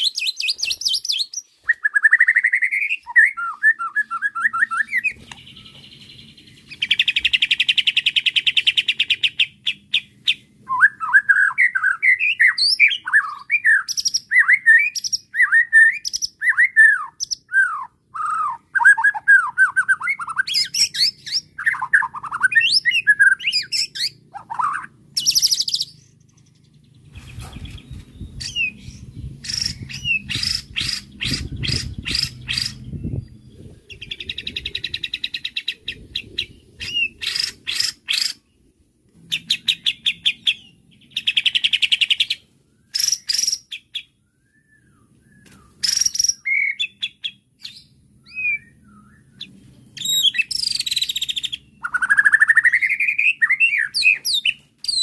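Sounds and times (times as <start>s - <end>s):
bird singing whistled slurs: 0.0s - 26.1s, 27.1s - 38.4s, 39.3s - 55.0s.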